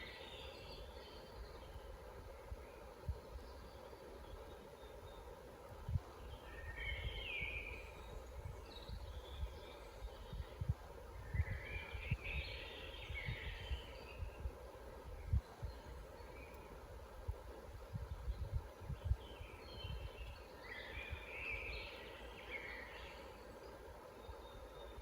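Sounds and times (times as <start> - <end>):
wild birds singing: 0.0 - 25.0.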